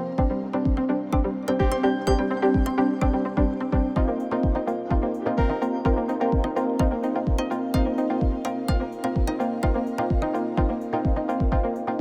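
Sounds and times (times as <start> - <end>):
synth chords: 0.0 - 12.0
kick drum beat: 0.2 - 12.0.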